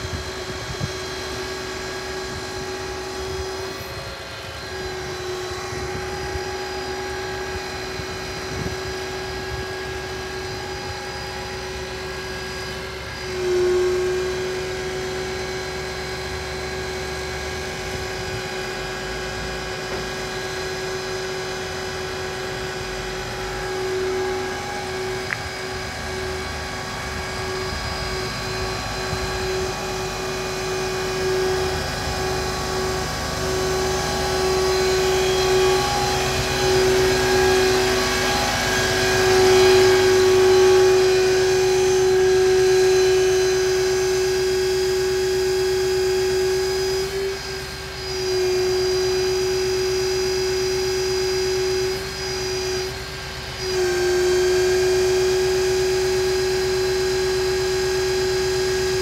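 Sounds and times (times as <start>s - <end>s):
truck engine running: 0.0s - 48.3s
hydraulic crane whine: 0.0s - 59.0s.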